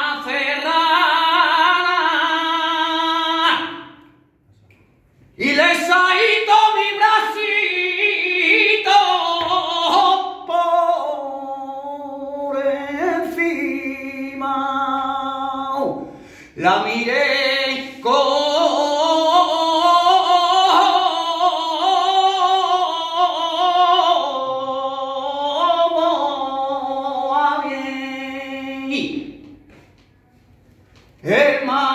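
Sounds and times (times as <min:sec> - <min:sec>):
man singing unaccompanied: 0:00.0 - 0:04.0, 0:05.4 - 0:16.0, 0:16.6 - 0:29.6, 0:31.2 - 0:31.9.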